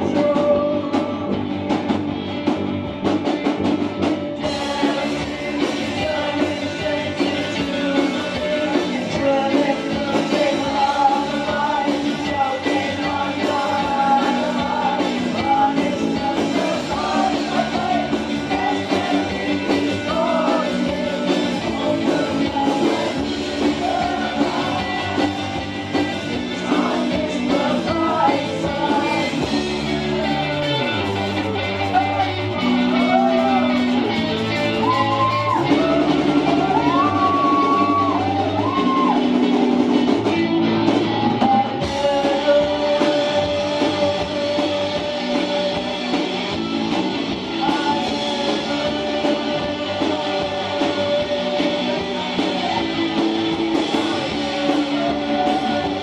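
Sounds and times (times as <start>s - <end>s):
drum kit: 0.0s - 56.0s
electric bass: 0.0s - 56.0s
electric guitars: 0.0s - 56.0s
lead vocal: 0.0s - 56.0s.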